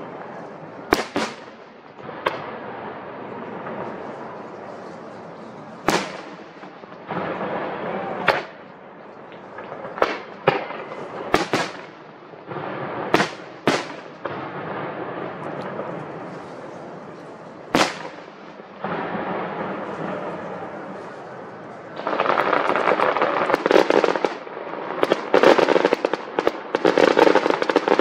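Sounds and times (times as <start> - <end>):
firework booms: 0.0 - 4.4, 5.8 - 8.7, 9.4 - 16.5, 17.1 - 28.0.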